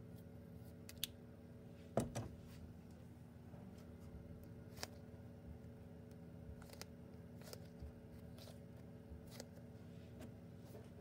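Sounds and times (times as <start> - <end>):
low room tone hum: 0.0 - 11.0.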